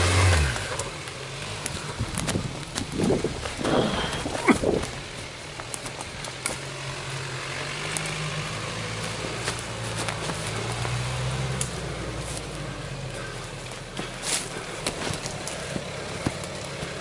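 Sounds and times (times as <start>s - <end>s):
diesel engine running at low revs: 0.0s - 17.0s.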